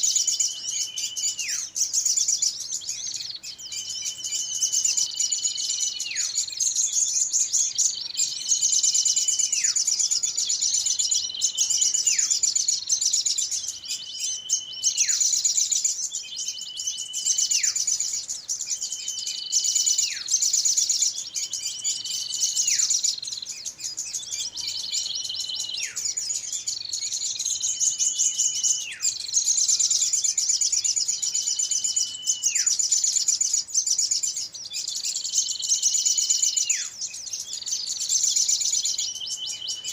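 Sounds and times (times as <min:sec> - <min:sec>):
songbirds chattering: 0:00.0 - 0:39.9.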